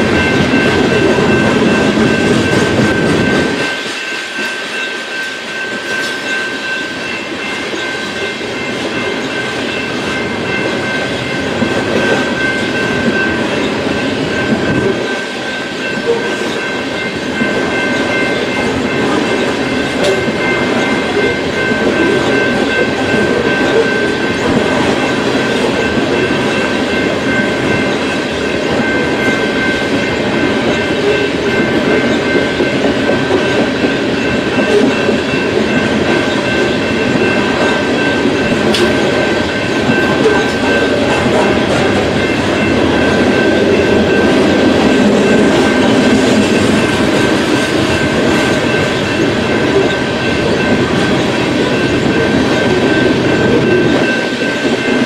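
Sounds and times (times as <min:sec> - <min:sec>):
freight train cars rolling: 0:00.0 - 0:55.0.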